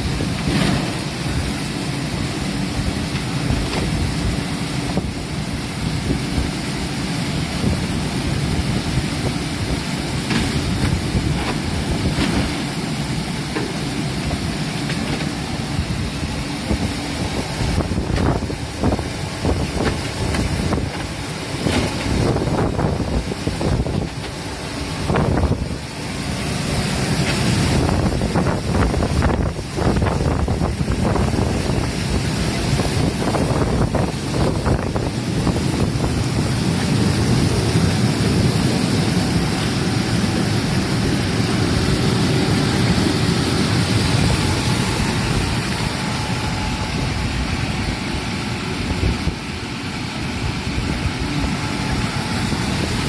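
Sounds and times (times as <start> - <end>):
churning water: 0.0 - 53.0
motor hum: 0.0 - 53.0.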